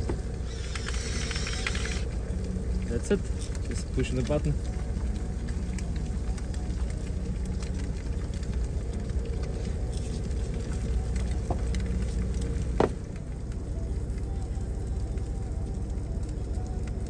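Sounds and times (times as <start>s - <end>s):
egg frying in a skillet: 0.0s - 17.0s.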